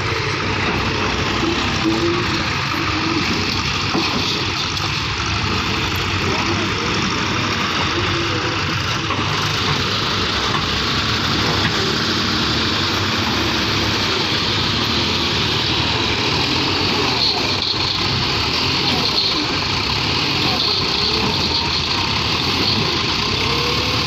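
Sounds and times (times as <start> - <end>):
tractor diesel engine running: 0.0 - 24.0
voices: 0.0 - 24.0.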